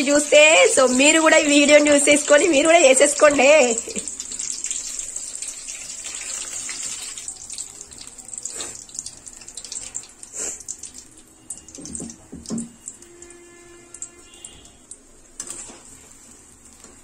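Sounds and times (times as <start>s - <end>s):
chillies deep-frying in oil: 0.0s - 17.0s.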